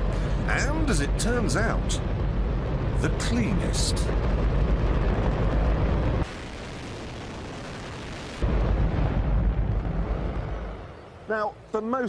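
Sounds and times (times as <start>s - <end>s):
rocket engine roaring: 0.0s - 11.3s.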